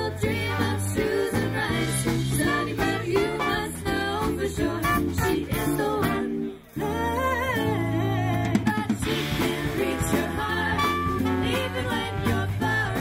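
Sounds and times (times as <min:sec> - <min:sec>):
swing band playing: 0:00.0 - 0:13.0
women singing: 0:00.0 - 0:13.0.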